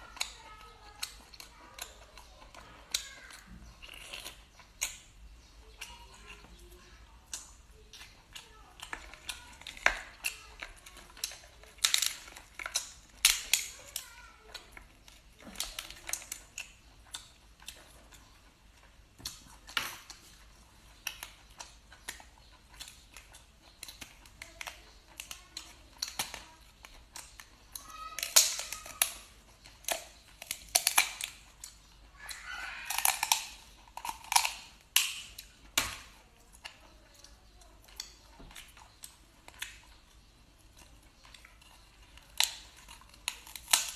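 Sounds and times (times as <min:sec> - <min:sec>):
shell cracking and crunching: 0:00.1 - 0:06.5, 0:07.3 - 0:43.9.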